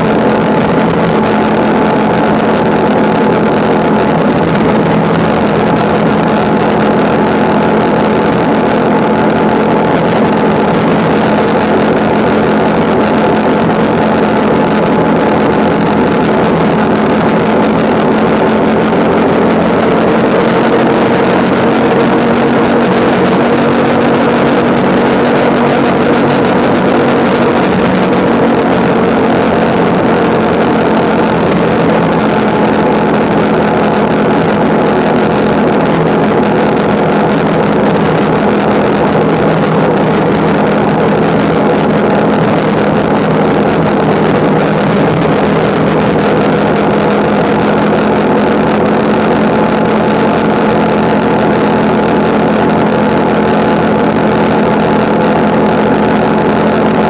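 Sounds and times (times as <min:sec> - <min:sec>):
road and wind noise: 0:00.0 - 0:57.0
vehicle engine cruising: 0:00.0 - 0:57.0.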